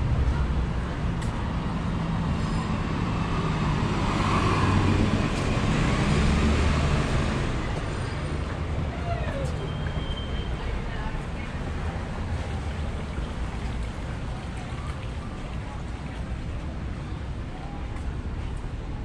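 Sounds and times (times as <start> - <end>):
passing car traffic: 0.0 - 19.0.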